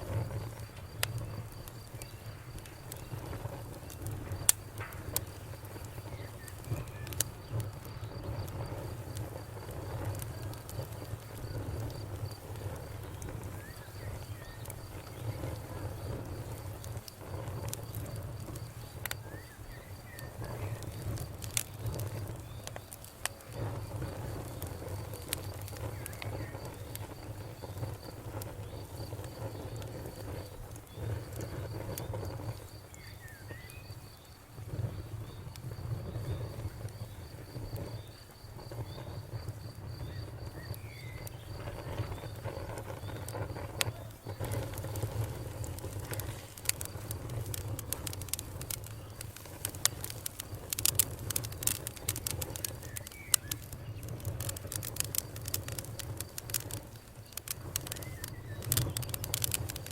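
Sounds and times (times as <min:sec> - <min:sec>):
campfire crackling: 0:00.0 - 0:59.9
crickets chirping: 0:00.0 - 0:59.9
fire popping: 0:00.0 - 0:59.9.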